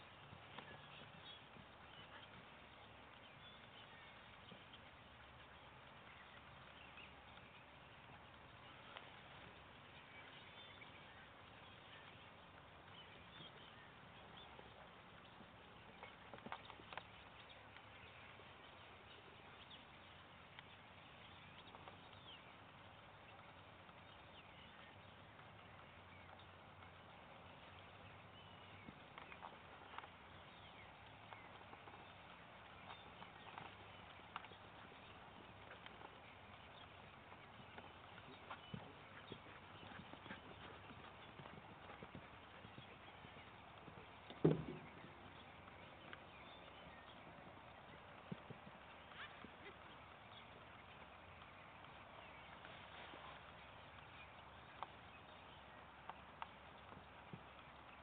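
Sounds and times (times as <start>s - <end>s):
horse hoofbeats on grass: 0.0s - 58.0s
faint bird chirps: 0.2s - 55.8s.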